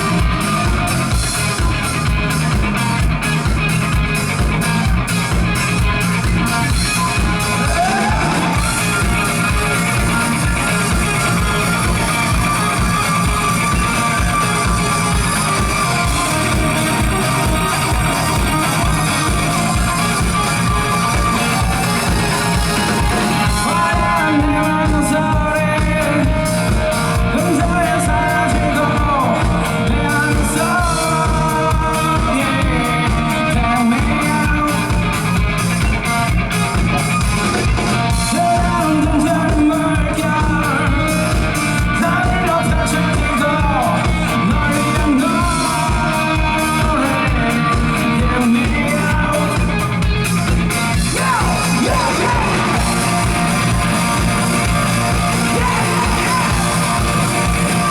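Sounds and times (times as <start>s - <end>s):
drum beat: 0.0s - 49.0s, 49.6s - 57.9s
rock band playing: 0.0s - 57.9s
man singing: 6.6s - 35.5s, 38.0s - 50.3s, 50.9s - 57.9s.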